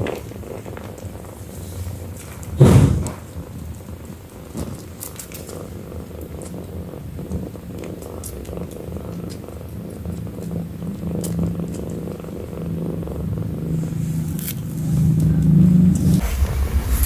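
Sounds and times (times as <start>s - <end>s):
cat purring: 0.0s - 17.0s
deep rumble: 0.0s - 17.0s.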